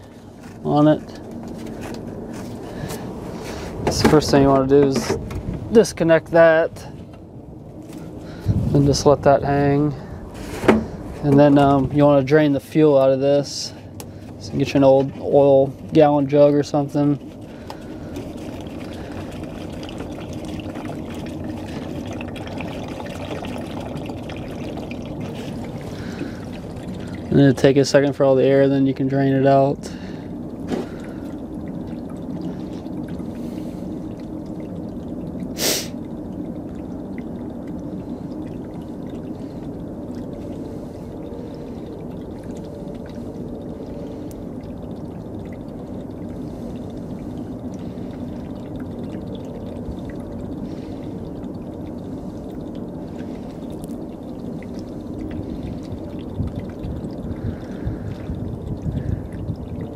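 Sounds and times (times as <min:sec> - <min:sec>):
fuel trickling into a jug: 0:00.0 - 0:59.9.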